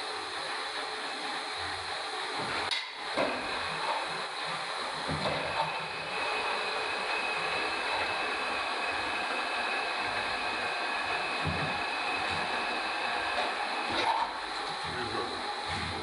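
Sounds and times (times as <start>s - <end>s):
metal lathe running: 0.0s - 16.0s.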